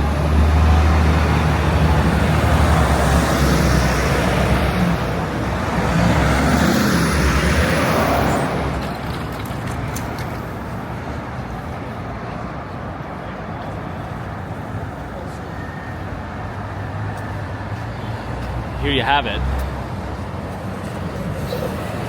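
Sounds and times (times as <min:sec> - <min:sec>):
city traffic noise: 0:00.0 - 0:22.0
heavy vehicle engine rumble: 0:00.0 - 0:22.0.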